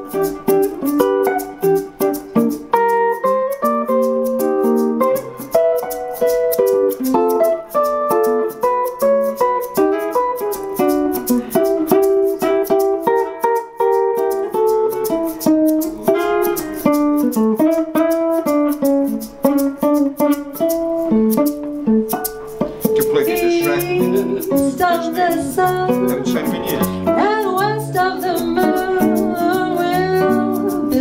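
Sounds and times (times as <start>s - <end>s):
hand shaker rhythm: 0.0s - 31.0s
jazz guitar solo: 0.0s - 31.0s.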